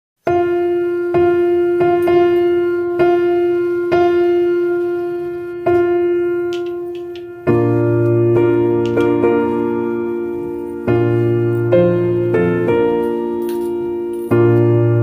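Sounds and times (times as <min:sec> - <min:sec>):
fuller chord: 0:00.3 - 0:15.0.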